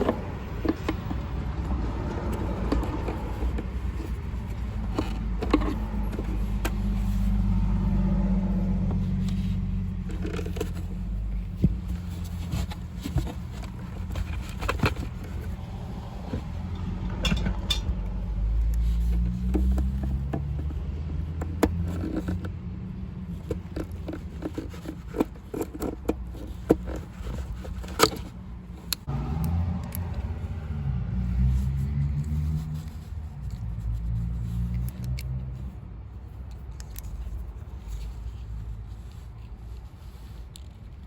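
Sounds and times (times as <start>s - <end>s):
plastic parts clicking and scraping: 0.0s - 30.7s, 31.3s - 41.0s.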